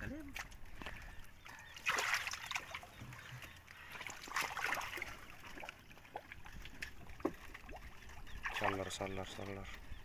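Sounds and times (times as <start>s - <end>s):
small drips and knocks: 0.0s - 9.9s
water splashing and trickling: 0.0s - 10.0s.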